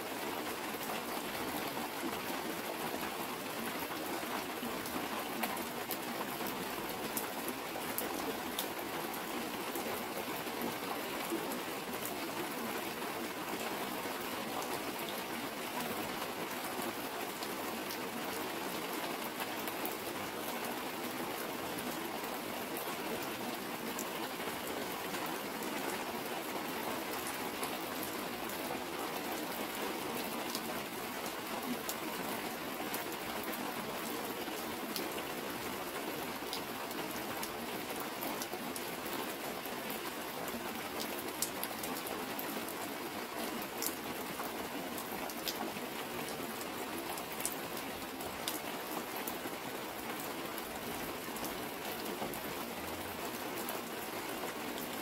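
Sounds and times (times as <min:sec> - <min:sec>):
heavy rain: 0:00.0 - 0:55.0
raindrops ticking on plastic sheeting: 0:00.0 - 0:55.0.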